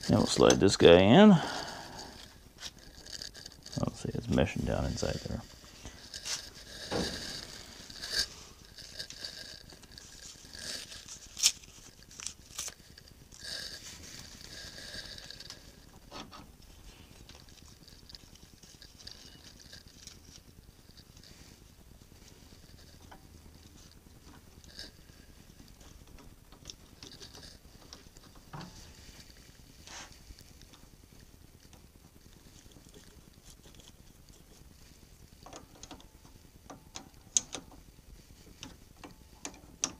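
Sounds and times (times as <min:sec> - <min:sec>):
scraping and rustling: 0:01.7 - 0:36.5.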